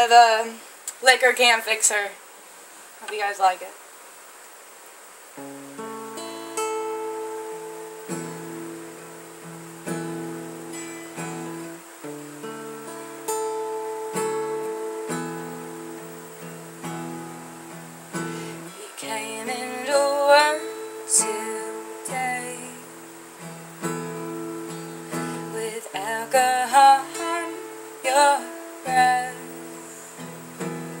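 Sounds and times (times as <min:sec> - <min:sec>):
acoustic guitar strumming chords: 0:05.4 - 0:31.0.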